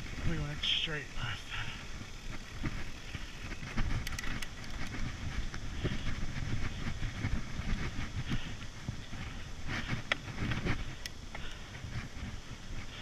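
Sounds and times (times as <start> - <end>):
bike clicks and rattles: 0.0 - 13.0
wind on microphone: 1.9 - 13.0.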